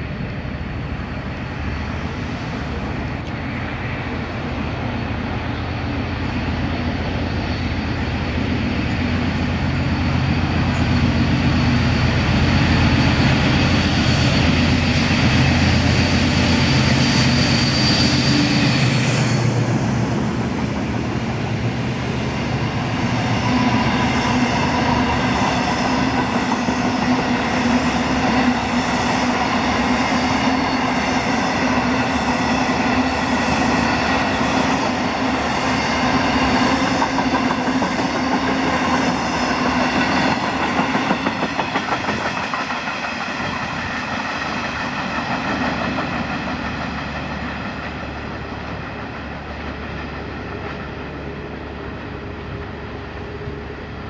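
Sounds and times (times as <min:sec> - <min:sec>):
diesel locomotive engine passing: 0:00.0 - 0:54.0.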